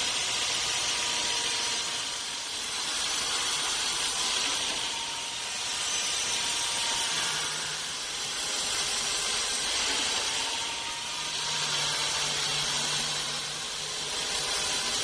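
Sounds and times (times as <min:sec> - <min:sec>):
sawmill saw cutting log: 0:00.0 - 0:15.0.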